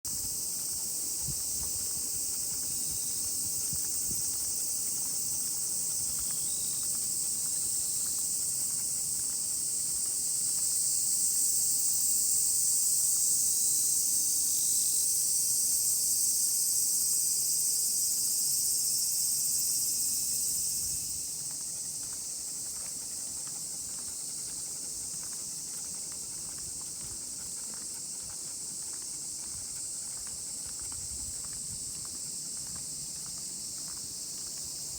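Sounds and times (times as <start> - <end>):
cicadas droning: 0.1 - 34.9.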